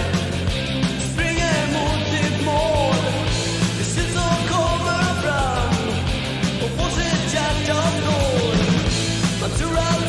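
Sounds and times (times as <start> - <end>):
bass guitar: 0.0 - 10.0
drums playing steady beat: 0.0 - 10.0
electric guitar: 0.0 - 10.0
person singing: 0.0 - 10.0.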